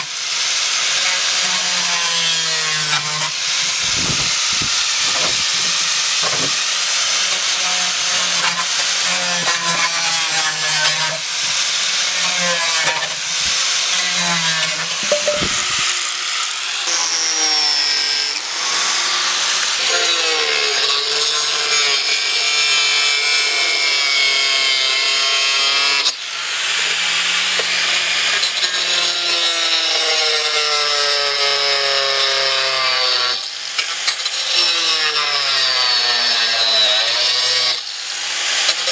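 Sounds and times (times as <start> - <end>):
angle grinder cutting plastic: 0.0 - 38.9.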